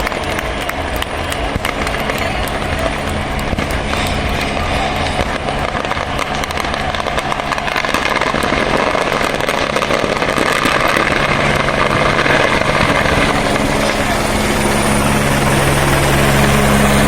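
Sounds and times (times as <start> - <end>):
engine noise: 0.0 - 17.0.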